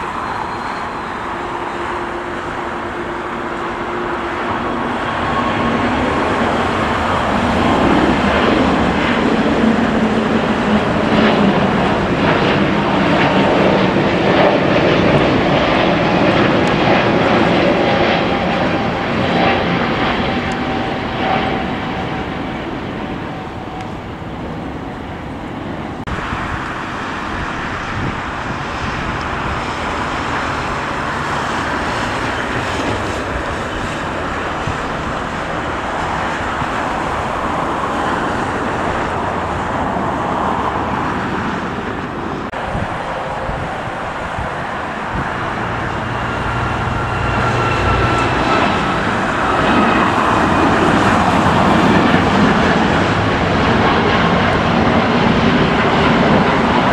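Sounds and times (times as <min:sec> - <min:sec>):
jet engine rush: 0:00.0 - 0:56.9.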